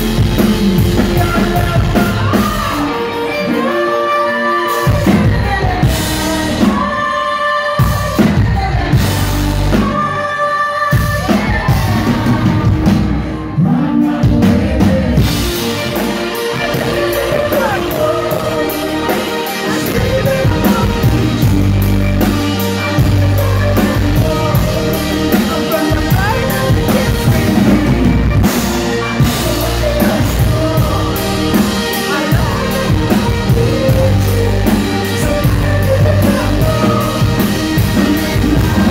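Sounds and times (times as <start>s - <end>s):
drums: 0.0s - 38.9s
electric guitar: 0.0s - 38.9s
keyboard: 0.0s - 38.9s
man and woman singing: 0.3s - 38.9s.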